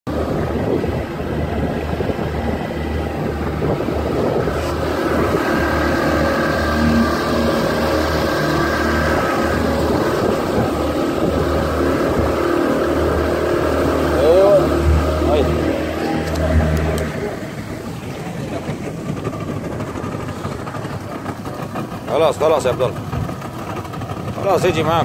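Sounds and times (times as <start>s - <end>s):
boat engine running: 0.0s - 25.0s
water splashing along hull: 0.0s - 25.0s.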